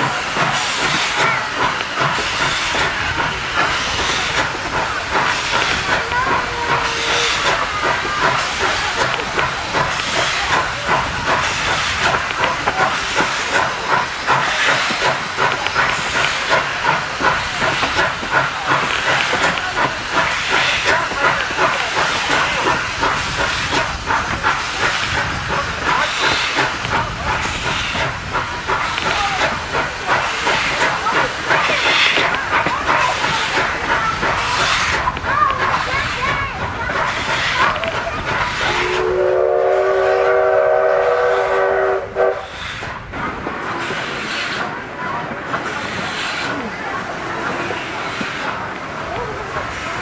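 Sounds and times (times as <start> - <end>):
hissing steam: 0.0 - 50.0
steam locomotive exhaust beating: 0.0 - 50.0.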